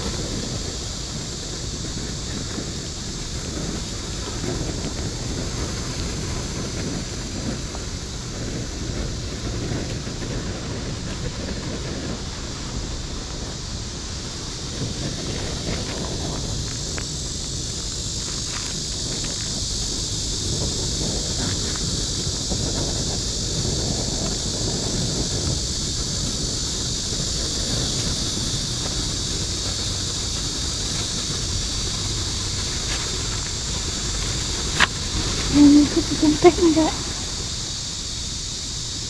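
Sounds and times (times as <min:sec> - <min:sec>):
steady high hiss: 0:00.0 - 0:39.0
wind buffeting microphone: 0:00.0 - 0:39.0.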